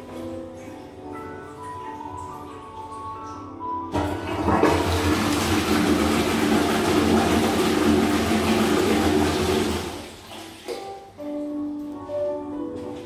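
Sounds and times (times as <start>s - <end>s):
toilet flushing: 0.0s - 11.1s.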